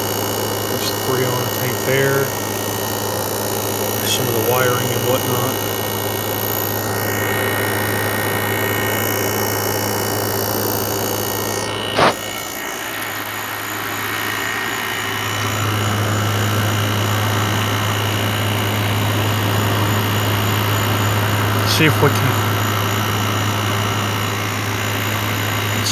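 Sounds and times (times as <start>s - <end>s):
air conditioner compressor hum: 0.0s - 25.9s.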